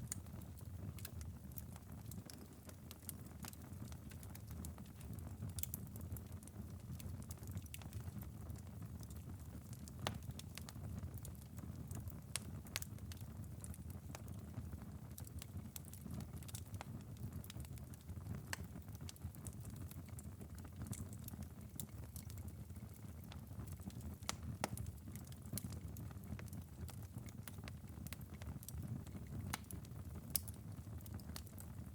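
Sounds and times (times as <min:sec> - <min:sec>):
embers crackling and popping: 0:00.0 - 0:31.9.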